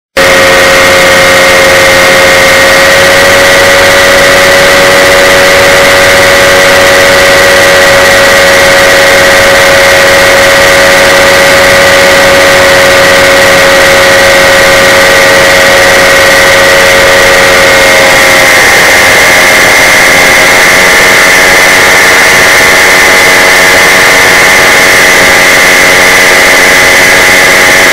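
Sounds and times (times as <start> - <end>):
paramotor engine droning: 0.2 - 27.9.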